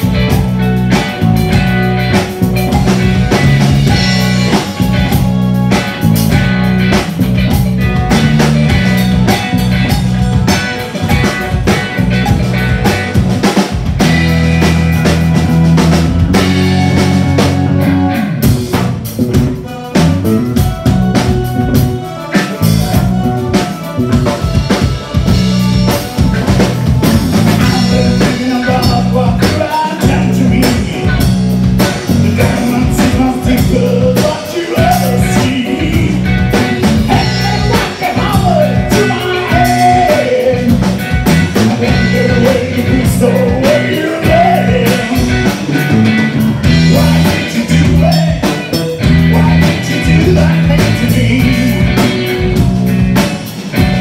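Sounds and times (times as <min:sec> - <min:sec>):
distorted electric guitar: 0:00.0 - 0:54.0
drum kit beat: 0:00.0 - 0:54.0
electric bass: 0:00.0 - 0:54.0.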